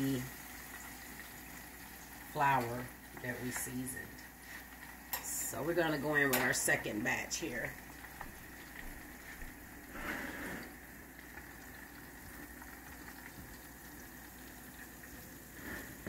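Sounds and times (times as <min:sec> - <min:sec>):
oil bubbling and sizzling: 0:00.0 - 0:16.0.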